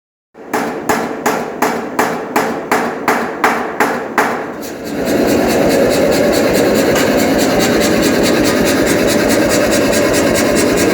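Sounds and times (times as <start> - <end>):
pneumatic hammer striking: 0.4 - 10.9.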